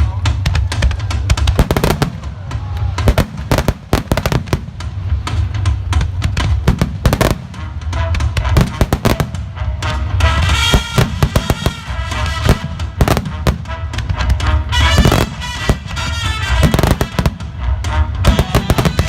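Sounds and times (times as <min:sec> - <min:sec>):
fireworks bangs and cracks: 0:00.0 - 0:19.0
music with heavy bass: 0:00.0 - 0:19.0.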